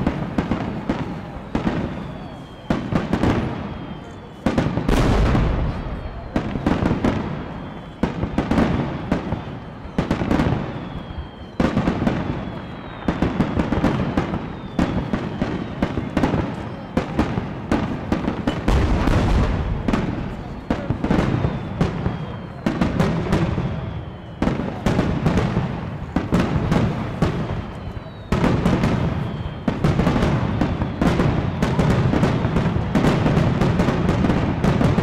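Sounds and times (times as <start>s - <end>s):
firework shells bursting with crackle: 0.0s - 35.0s.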